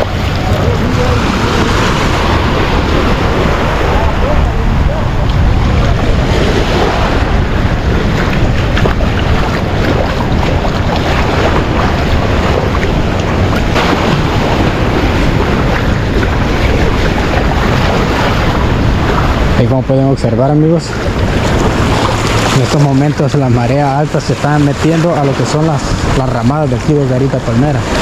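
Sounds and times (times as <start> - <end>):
seawater rushing through shallows: 0.0 - 28.0
wind rumble on microphone: 0.0 - 28.0.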